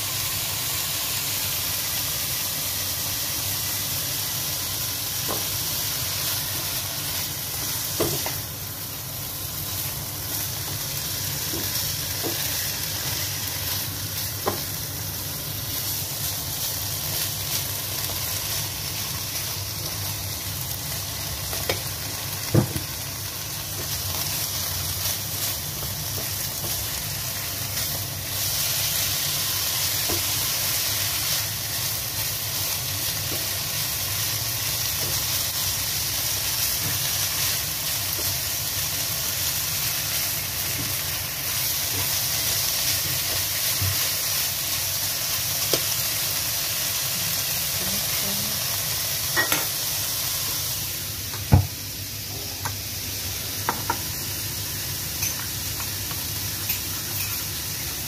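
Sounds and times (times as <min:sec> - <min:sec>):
food sizzling in a wok: 0:00.0 - 0:58.0.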